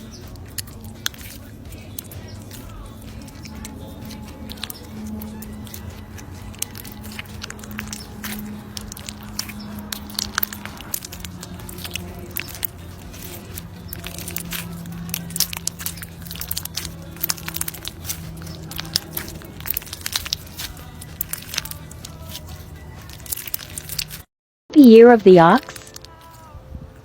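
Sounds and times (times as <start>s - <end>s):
chocolate balls crunching and cracking: 0.0s - 24.3s
soft background music: 0.0s - 27.0s.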